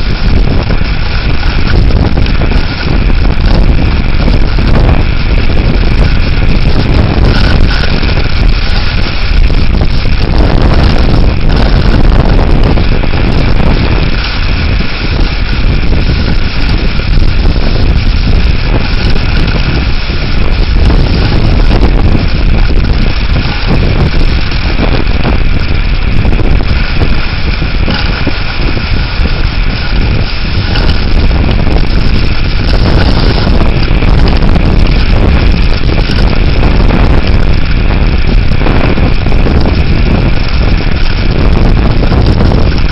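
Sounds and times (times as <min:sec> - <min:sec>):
strong wind on microphone: 0:00.0 - 0:42.9.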